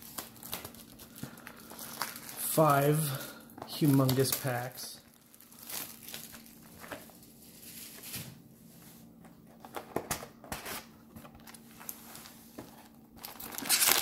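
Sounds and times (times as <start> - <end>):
card packs rustling: 0.0 - 8.3, 9.0 - 14.0.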